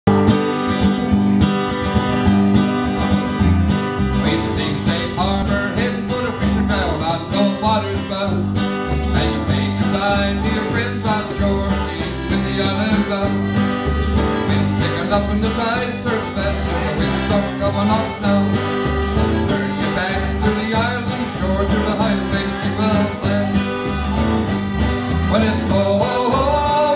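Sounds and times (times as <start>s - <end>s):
acoustic guitar strumming: 0.1s - 26.9s
button accordion: 0.1s - 26.9s
electric bass: 0.1s - 26.9s.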